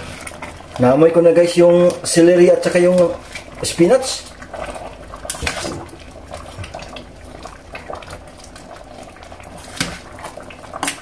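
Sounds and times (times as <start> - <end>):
soup bubbling: 0.0 - 11.0.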